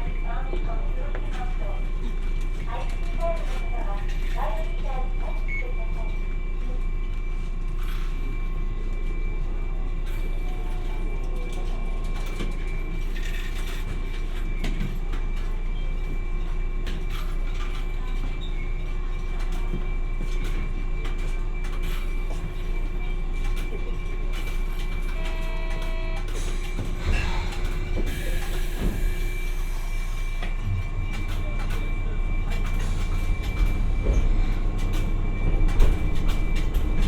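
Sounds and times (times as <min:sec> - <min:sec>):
constant hums: 0:00.0 - 0:37.0
tram wheels rumbling: 0:00.0 - 0:37.0.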